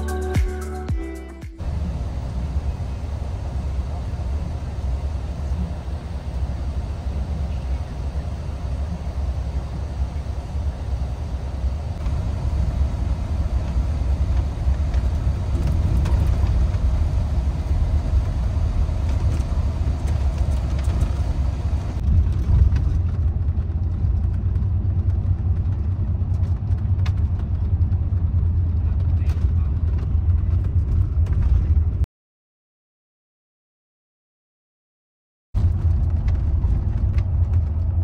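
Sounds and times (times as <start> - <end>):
bus engine and road rumble: 0.0 - 32.1, 35.6 - 38.0.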